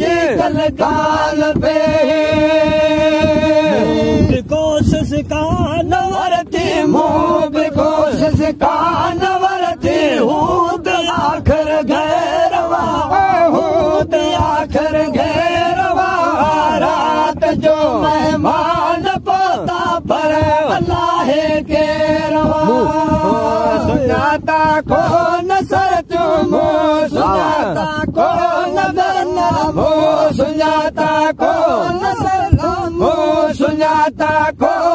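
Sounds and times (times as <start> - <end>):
men chanting in unison: 0.0 - 34.9.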